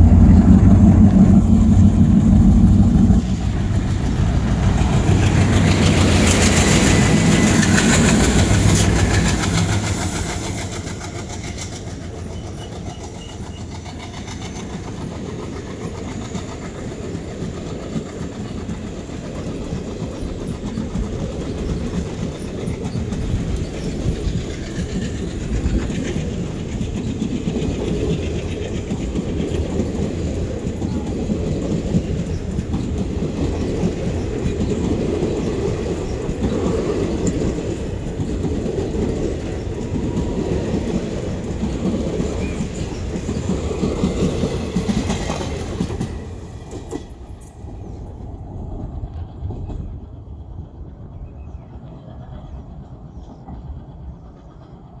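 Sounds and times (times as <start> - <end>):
train wheels clattering over joints: 0.0 - 55.0.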